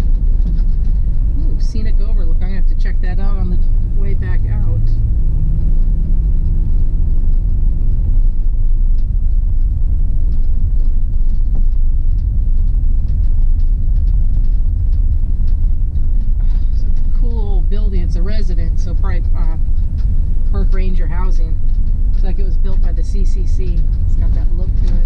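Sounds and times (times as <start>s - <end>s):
vehicle engine and tyres rumbling: 0.0s - 25.0s.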